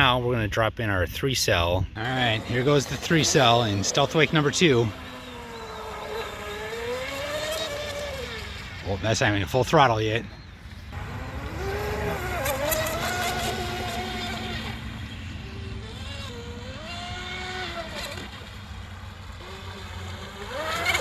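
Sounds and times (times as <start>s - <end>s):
electric motor whining: 2.0s - 9.4s, 10.7s - 21.0s.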